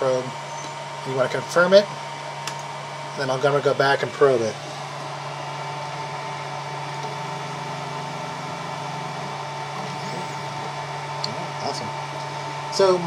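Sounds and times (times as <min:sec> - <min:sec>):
machine hum with high whine: 0:00.0 - 0:13.0.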